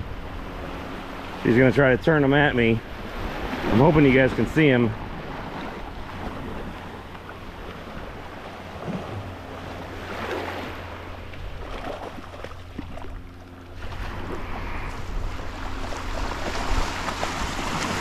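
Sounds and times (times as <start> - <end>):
surf washing over sand: 0.0 - 18.0
wind rumbling on microphone: 0.0 - 18.0.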